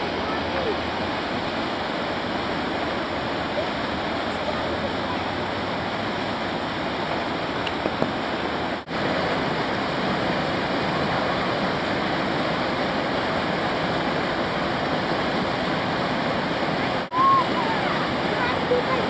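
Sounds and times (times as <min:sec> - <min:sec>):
whitewater rushing: 0:00.0 - 0:19.0.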